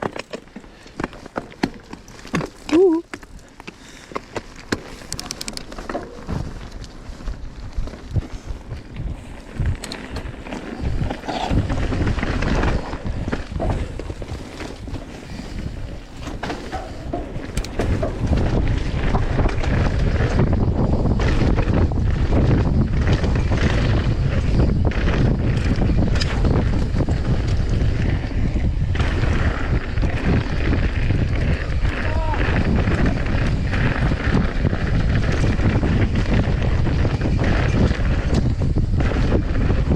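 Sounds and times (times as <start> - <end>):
mountain bike rattling over dirt: 0.0 - 39.9
wind buffeting microphone: 4.9 - 39.9.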